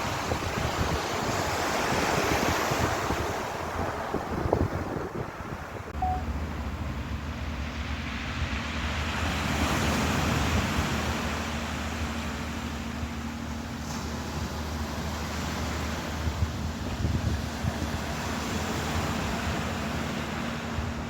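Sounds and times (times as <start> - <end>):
ocean waves washing: 0.0 - 21.0
wind buffeting microphone: 0.0 - 21.0.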